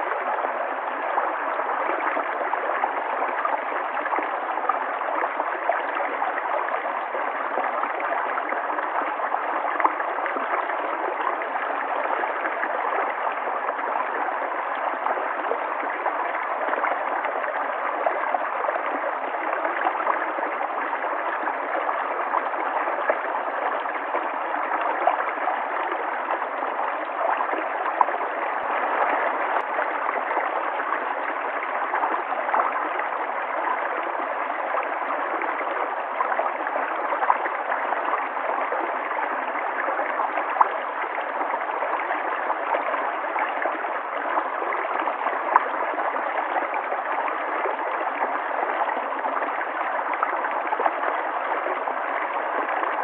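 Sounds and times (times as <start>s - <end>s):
river water flowing and gurgling: 0.0s - 53.0s.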